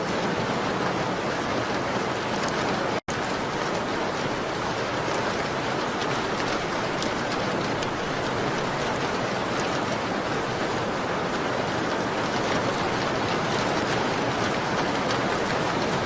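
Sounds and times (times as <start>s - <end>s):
rain on a window: 0.0s - 16.0s.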